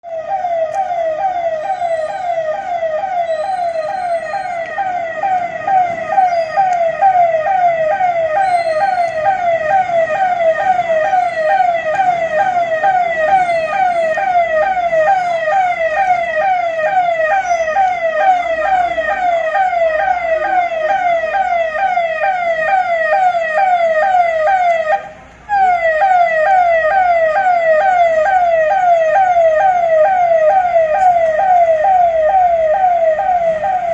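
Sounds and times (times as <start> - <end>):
electronic emergency siren: 0.0 - 33.9.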